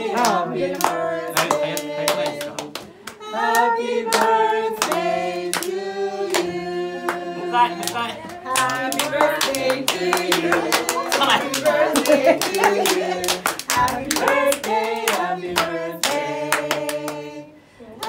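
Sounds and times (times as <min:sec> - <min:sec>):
people singing: 0:00.0 - 0:18.0
people clapping in time: 0:00.2 - 0:05.8, 0:07.8 - 0:17.2.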